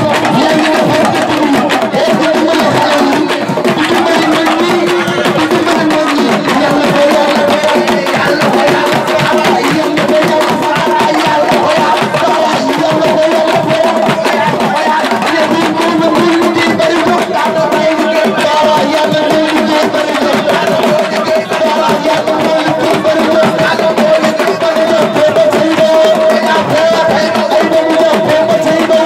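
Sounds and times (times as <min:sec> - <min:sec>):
fast hand-drum percussion: 0:00.0 - 0:29.0.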